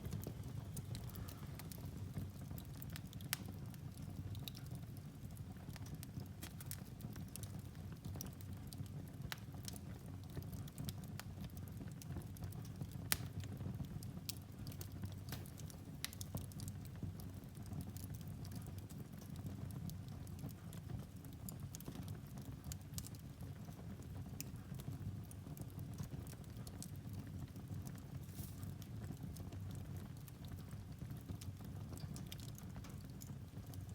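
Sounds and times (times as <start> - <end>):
fire burning in a fireplace: 0.0 - 33.9
wood crackling and popping: 0.0 - 33.9.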